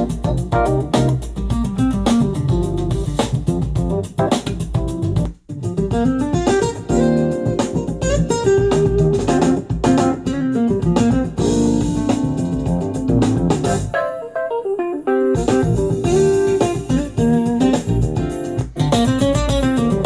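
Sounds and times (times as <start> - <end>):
guitar music with bass line: 0.0 - 20.0.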